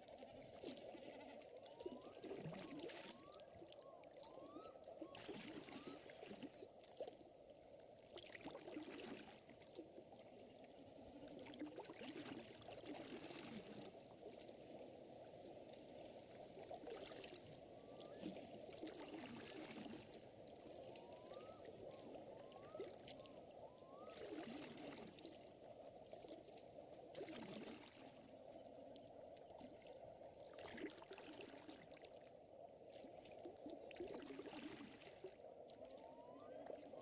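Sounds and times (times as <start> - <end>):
water lapping and trickling: 0.0 - 37.0
soft splashes: 0.1 - 37.0.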